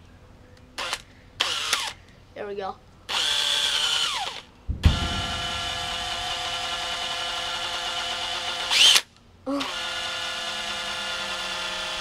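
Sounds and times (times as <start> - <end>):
cordless drill motor whining: 0.8 - 2.0, 3.1 - 12.0.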